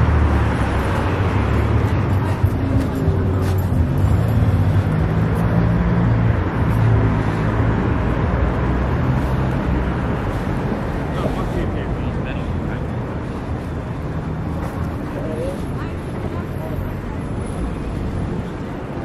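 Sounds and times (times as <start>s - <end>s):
car engines passing: 0.0s - 19.0s
road noise hiss: 0.0s - 19.0s.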